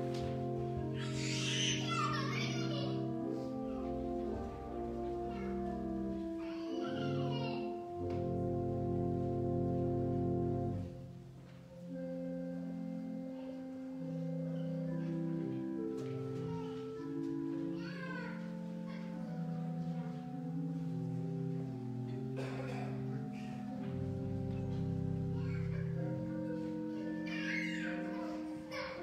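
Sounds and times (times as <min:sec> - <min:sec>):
slow instrumental music: 0:00.0 - 0:29.0.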